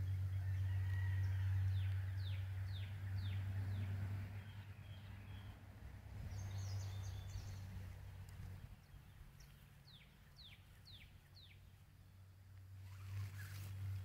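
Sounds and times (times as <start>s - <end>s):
birdsong: 0.0s - 14.0s
steady low hum: 0.0s - 14.0s.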